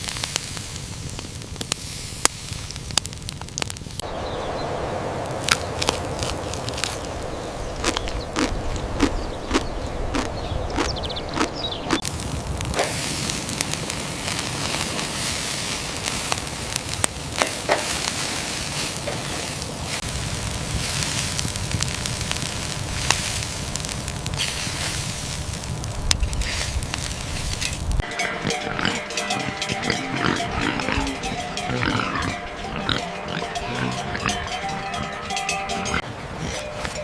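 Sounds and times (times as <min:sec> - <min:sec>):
sharp crackles and pops: 0:00.0 - 0:34.6
steady hissing: 0:00.0 - 0:37.0.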